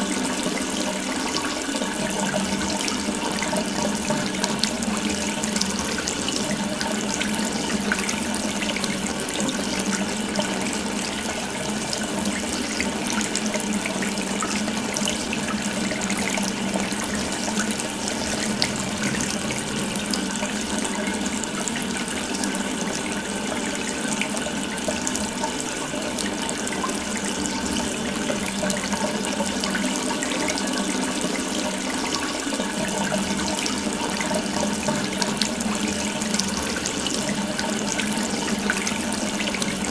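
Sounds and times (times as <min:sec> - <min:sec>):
water running from faucet: 0:00.0 - 0:39.9.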